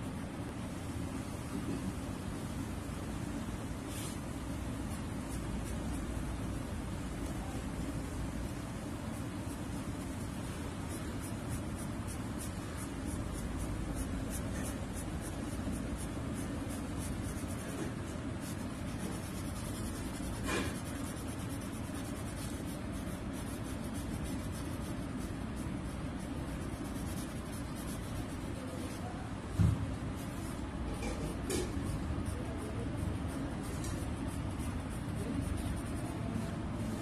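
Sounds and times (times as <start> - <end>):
pencil scratching on paper: 3.9 - 6.4, 8.4 - 29.2, 30.2 - 37.0.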